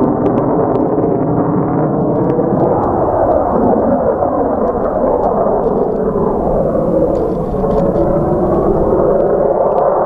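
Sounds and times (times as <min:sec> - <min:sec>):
jet engine roaring: 0:00.0 - 0:10.0.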